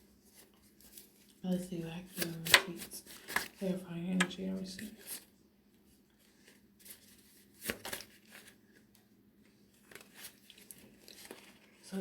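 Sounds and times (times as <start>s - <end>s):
cards being shuffled by hand: 0.2s - 5.3s, 6.1s - 12.0s.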